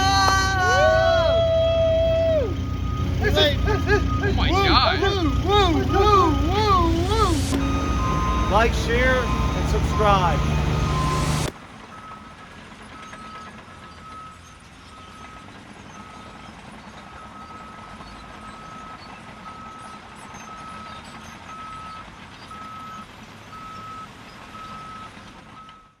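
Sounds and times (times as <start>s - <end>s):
low diesel engine rumble: 0.0s - 26.0s
reversing alarm beeping: 2.0s - 12.4s, 13.0s - 16.5s, 17.1s - 26.0s.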